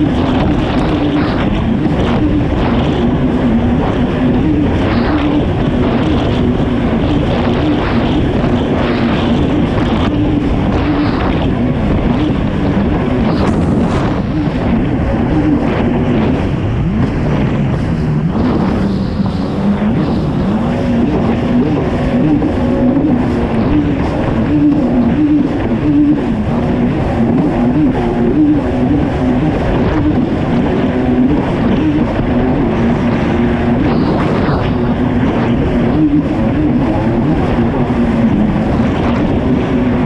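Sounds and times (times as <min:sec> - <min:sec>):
jet ski engine running hard: 0:00.0 - 0:40.0
rushing water: 0:00.0 - 0:40.0.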